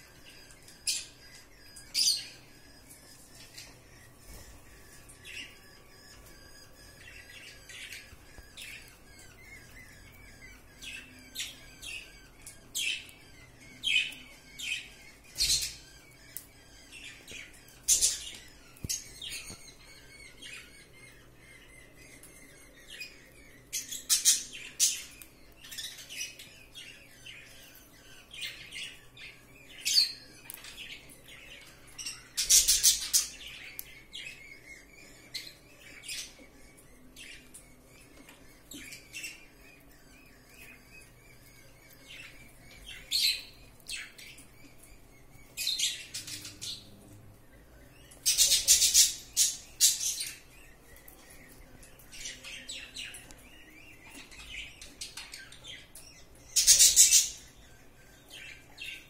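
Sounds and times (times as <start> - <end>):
pet birds chirping and squawking: 0.0 - 59.0.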